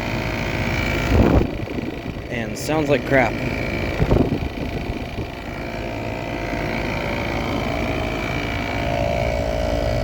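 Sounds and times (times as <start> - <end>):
heat pump rumbling hum: 0.0 - 10.0
high whine: 0.0 - 10.0.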